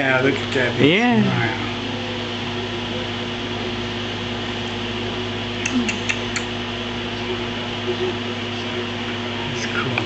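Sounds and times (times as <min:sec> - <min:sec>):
fan humming and hissing: 0:00.0 - 0:10.0.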